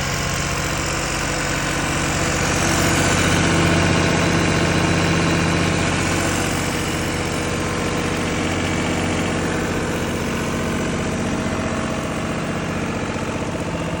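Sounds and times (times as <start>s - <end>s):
diesel generator engine running: 0.0s - 14.0s.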